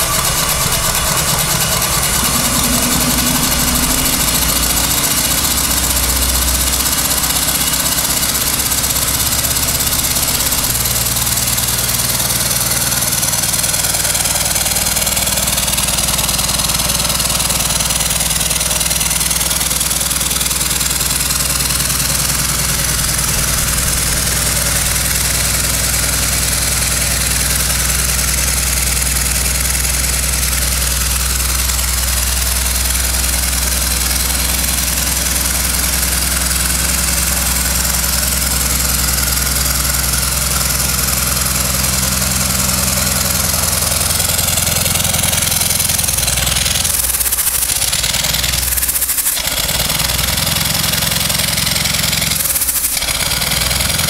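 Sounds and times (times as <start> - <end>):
engine running with low hum: 0.0 - 54.0.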